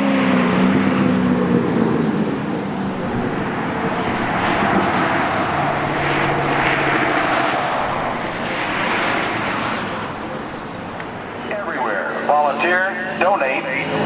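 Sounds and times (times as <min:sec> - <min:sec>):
race cars passing at speed: 0:00.0 - 0:14.0.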